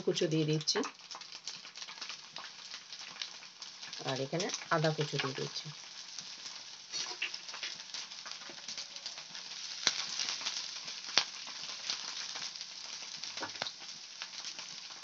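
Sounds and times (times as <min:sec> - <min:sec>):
garlic sizzling in hot oil: 0:00.0 - 0:15.0.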